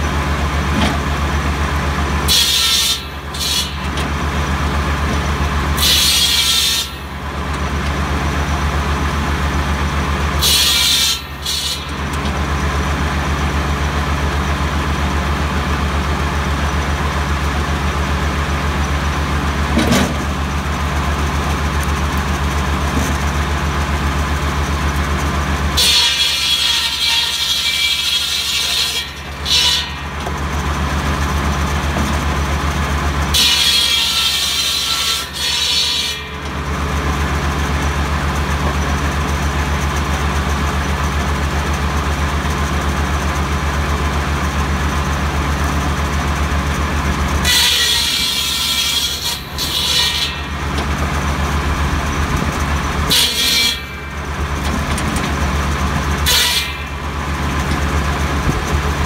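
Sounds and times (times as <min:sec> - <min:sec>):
diesel tractor engine drone: 0:00.0 - 0:35.4, 0:36.2 - 0:59.0
circular saw cutting branches: 0:01.0 - 0:59.0.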